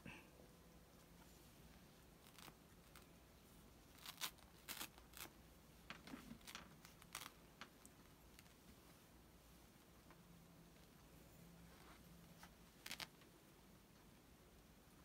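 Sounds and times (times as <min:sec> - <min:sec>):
fabric scratching and rustling: 0:01.0 - 0:13.3.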